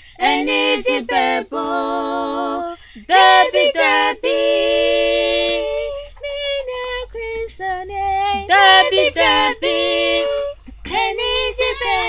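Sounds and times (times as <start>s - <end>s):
unaccompanied gospel singing: 0.0s - 12.0s.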